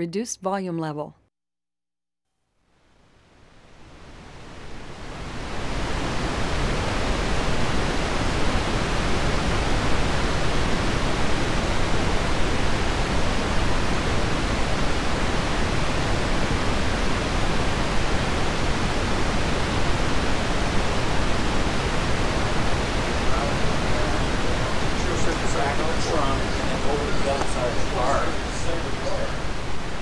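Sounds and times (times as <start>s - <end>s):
pink noise hiss: 2.8s - 30.0s.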